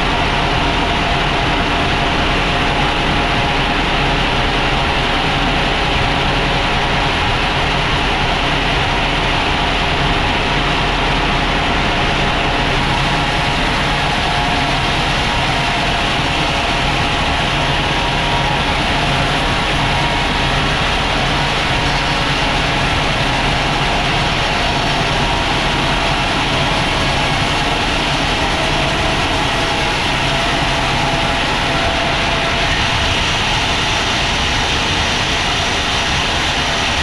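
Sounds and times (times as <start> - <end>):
sawmill machinery droning: 0.0 - 37.0.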